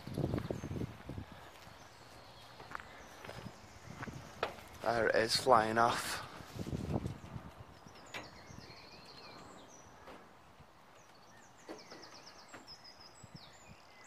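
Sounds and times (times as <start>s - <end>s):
small songbirds singing: 0.0s - 14.0s.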